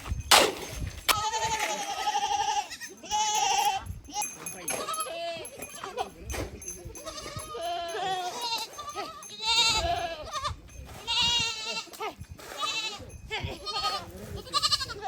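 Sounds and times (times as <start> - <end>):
goats bleating: 1.1 - 6.0, 7.0 - 15.0.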